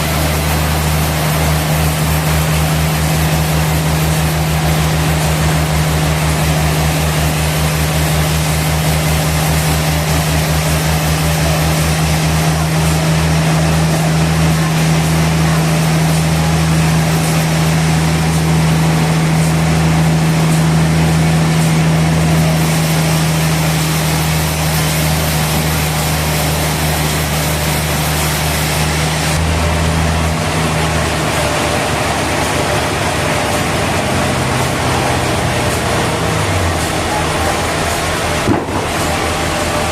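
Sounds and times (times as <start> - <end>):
low tone sliding down: 0.0 - 39.9
sawmill machinery hum and hiss: 0.0 - 39.9.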